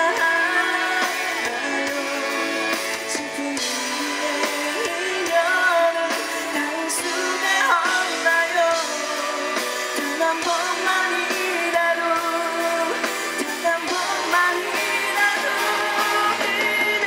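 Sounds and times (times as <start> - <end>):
guitar: 0.0 - 17.0
person singing: 0.0 - 17.0
steady drum beat: 0.0 - 17.0.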